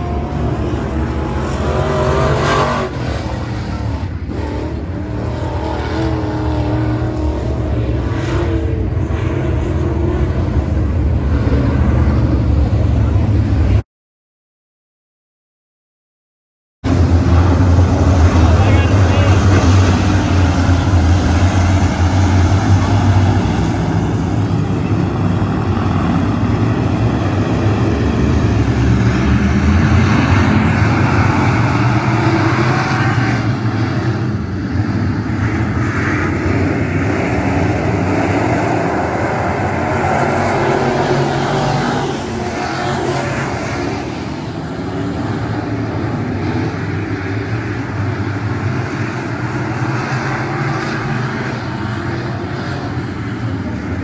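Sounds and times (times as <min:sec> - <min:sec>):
race car engines at high revs: 0:00.0 - 0:13.8, 0:16.9 - 0:54.0.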